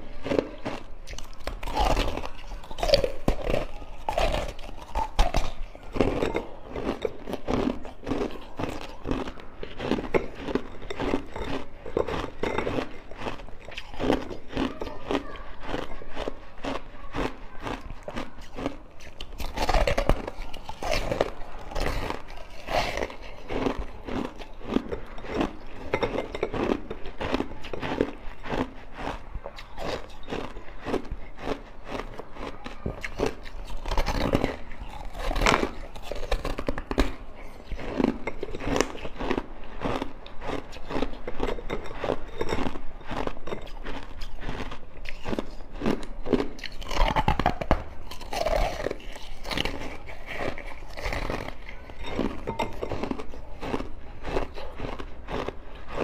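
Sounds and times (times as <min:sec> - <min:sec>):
ice being bitten and chewed: 0:00.0 - 0:56.0.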